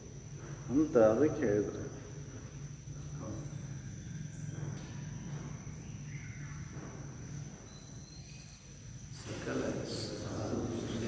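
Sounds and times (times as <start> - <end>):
high-pitched whine: 0.0 - 11.0
steady low hum: 0.0 - 11.0.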